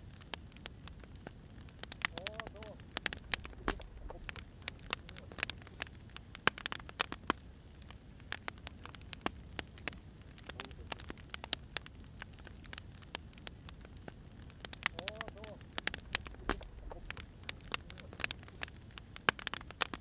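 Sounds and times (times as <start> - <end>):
firewood crackling and popping: 0.0 - 20.0
low steady hiss: 0.0 - 20.0.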